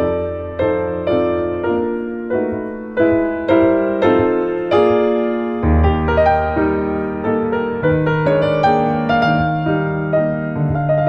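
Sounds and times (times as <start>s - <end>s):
slow classical piano music: 0.0s - 11.0s.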